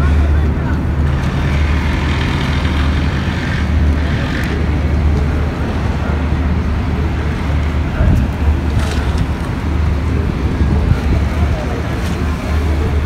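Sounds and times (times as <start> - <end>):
distant engines: 0.0 - 13.0
wind rumble: 0.0 - 13.0.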